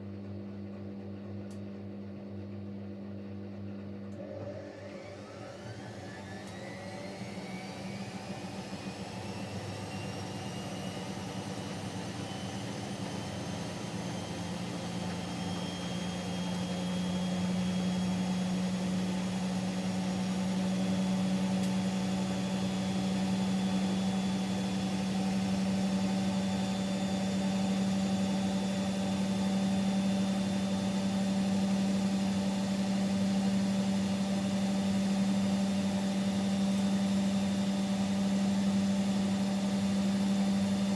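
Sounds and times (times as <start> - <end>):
washing machine spinning: 2.6 - 40.9
motor whine: 4.2 - 40.9.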